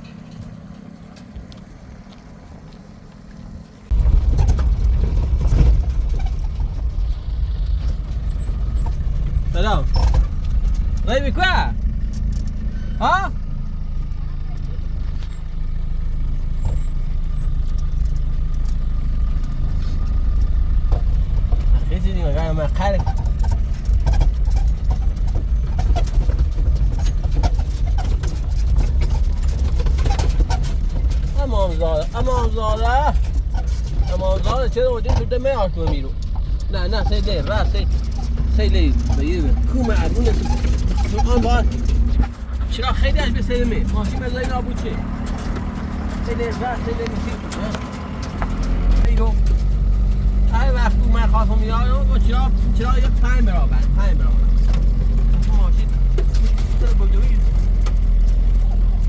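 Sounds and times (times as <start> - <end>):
engine humming: 0.0 - 59.0
loud engine rumble: 0.0 - 59.0
knocks and rattles: 3.9 - 12.8, 20.2 - 59.0.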